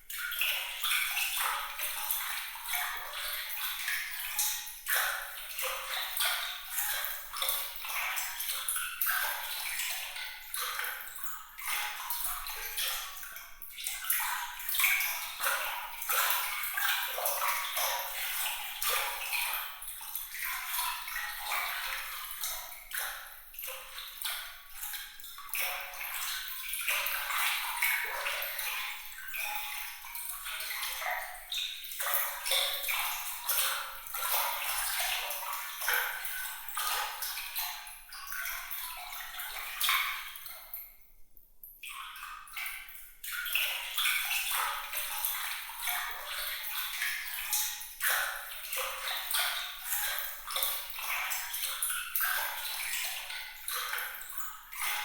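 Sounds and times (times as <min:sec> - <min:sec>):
water splashing and dripping: 0:00.1 - 0:41.0, 0:41.8 - 0:55.0.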